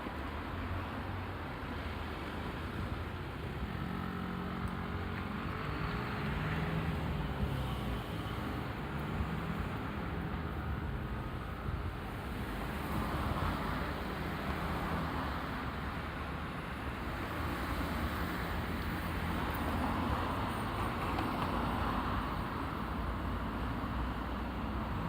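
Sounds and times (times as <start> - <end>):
traffic noise: 0.0 - 25.0
vehicles passing: 0.0 - 25.0.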